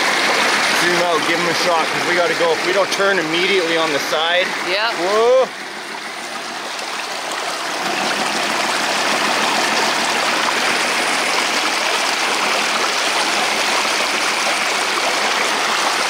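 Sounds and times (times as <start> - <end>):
creek water rushing and splashing: 0.0 - 16.0.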